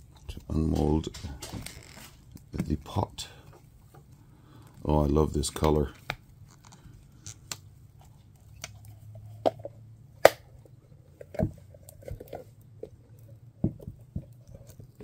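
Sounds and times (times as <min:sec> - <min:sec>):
rubbery squishes of silicone mold: 0:00.0 - 0:15.0.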